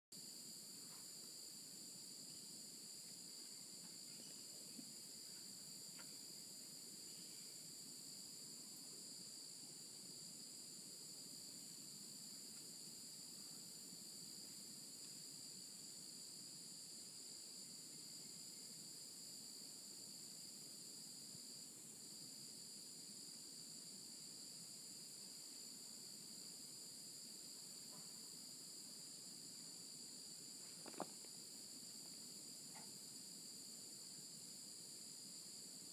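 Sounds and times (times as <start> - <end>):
tropical insects chorus: 0.2 - 35.9.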